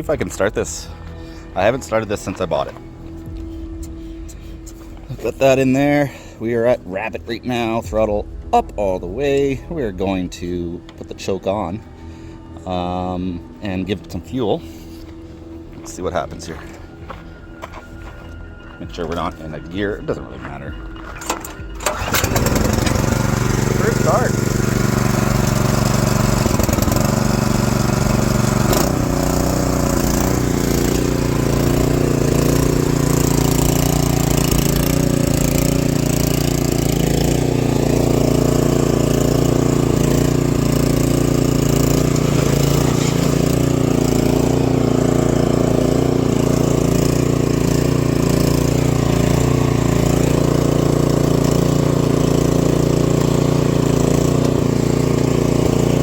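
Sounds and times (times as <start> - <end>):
snowblower engine running: 0.0 - 56.0.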